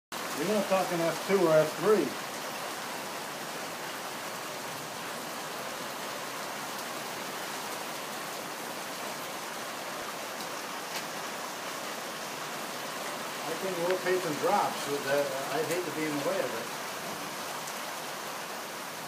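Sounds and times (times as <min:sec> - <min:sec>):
rain falling: 0:00.1 - 0:19.0.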